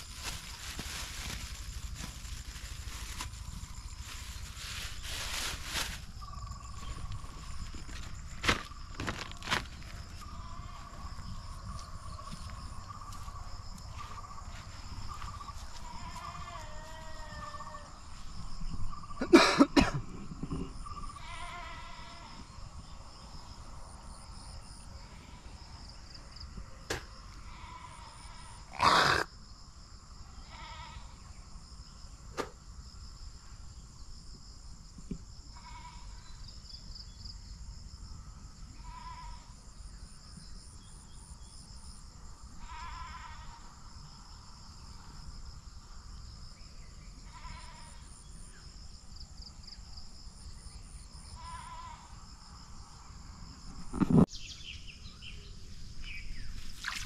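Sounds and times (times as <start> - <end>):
high insect buzz: 0.0 - 29.3, 30.2 - 33.2, 35.3 - 37.6, 38.7 - 57.0.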